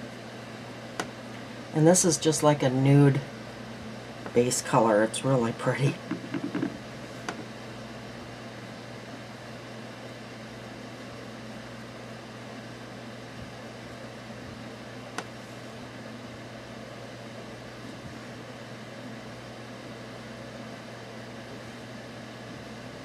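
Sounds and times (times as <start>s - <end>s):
machine hum and hiss: 0.0s - 23.0s.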